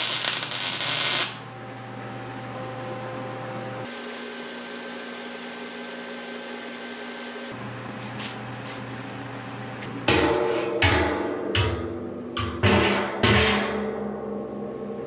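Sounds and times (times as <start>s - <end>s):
workshop machine hum: 0.0s - 13.2s.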